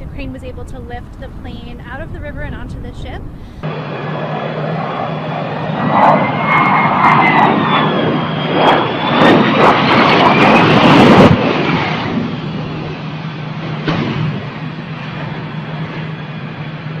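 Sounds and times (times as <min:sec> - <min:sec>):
jet engines whining and rushing: 0:00.0 - 0:17.0.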